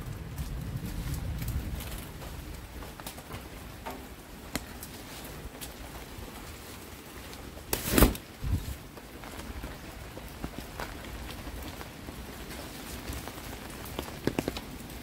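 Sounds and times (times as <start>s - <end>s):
raindrops ticking close by: 0.0s - 15.0s.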